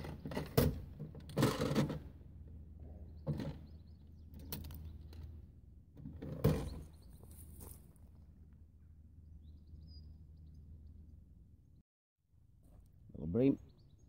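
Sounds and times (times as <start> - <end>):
low hum: 2.0 - 14.0.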